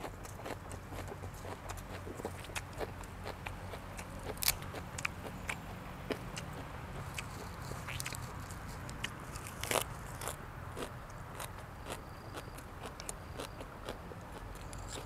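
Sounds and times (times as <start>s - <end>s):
person chewing and crunching food: 0.0s - 15.0s.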